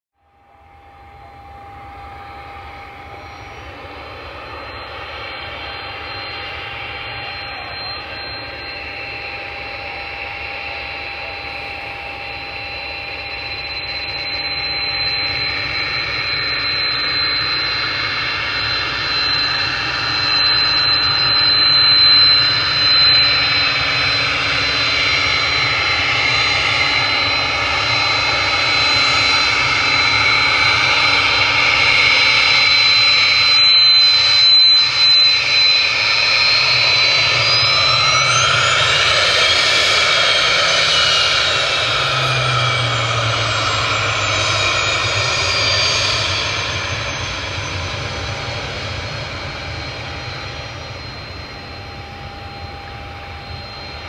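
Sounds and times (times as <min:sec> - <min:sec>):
high jet whine: 0:00.2 - 0:54.0
jet engines taxiing: 0:00.3 - 0:54.0.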